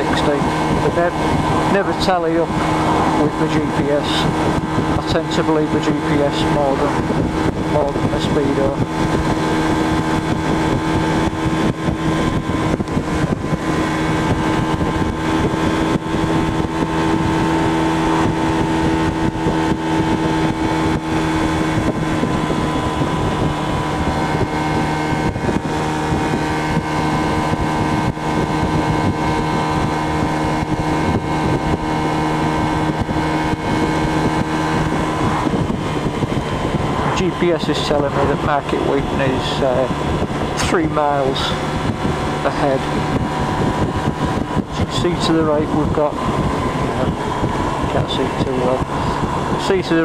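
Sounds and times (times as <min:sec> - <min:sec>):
scooter engine running: 0:00.0 - 0:50.0
wind noise on microphone: 0:00.0 - 0:50.0.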